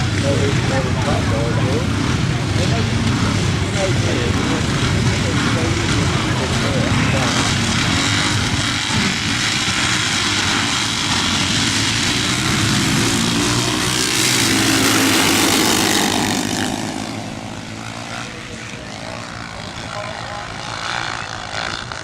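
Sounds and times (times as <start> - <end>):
motorcycle engine running hard: 0.0 - 22.0.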